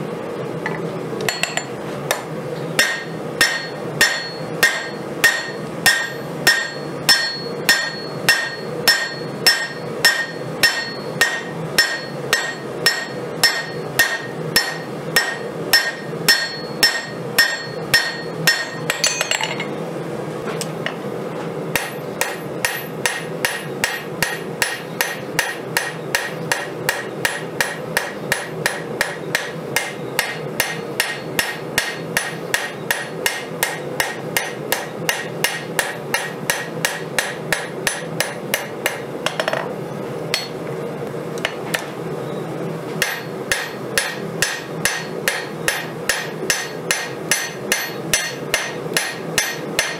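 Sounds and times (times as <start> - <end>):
hammer ringing on anvil: 1.3 - 1.8, 2.8 - 19.7, 21.8 - 39.6, 40.3 - 40.6, 43.0 - 49.9.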